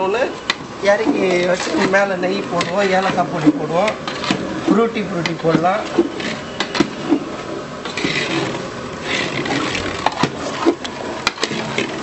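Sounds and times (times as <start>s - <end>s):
metal ladle scraping a pot: 1.0s - 4.5s, 5.4s - 12.0s.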